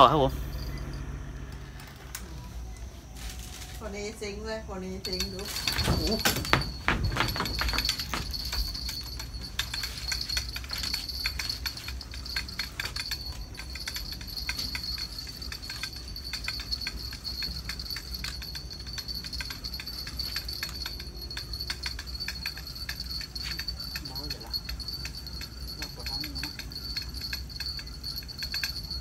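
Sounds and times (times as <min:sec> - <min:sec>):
high-pitched insect trill: 0:00.0 - 0:29.0
light jingling: 0:00.0 - 0:29.0
low hum: 0:00.0 - 0:29.0
small irregular clicks: 0:05.0 - 0:29.0.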